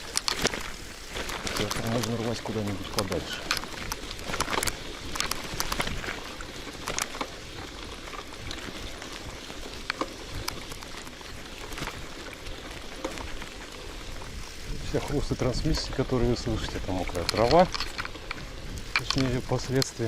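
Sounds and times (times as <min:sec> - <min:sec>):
bicycle chain crunching and clicking: 0:00.0 - 0:20.0
bicycle tyres rolling on grass: 0:00.0 - 0:20.0.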